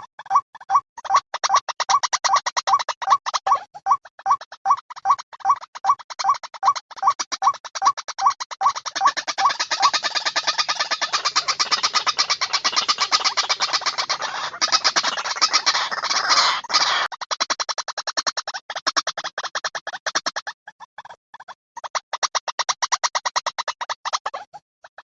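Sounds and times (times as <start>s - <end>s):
waterhen calls: 0.0s - 20.2s.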